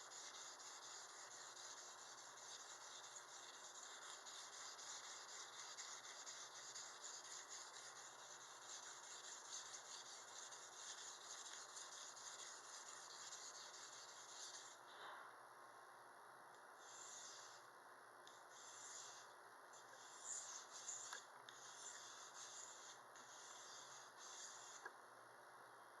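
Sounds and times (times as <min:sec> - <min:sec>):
knife rubbing on a sharpener: 0:00.0 - 0:14.8, 0:18.6 - 0:24.9.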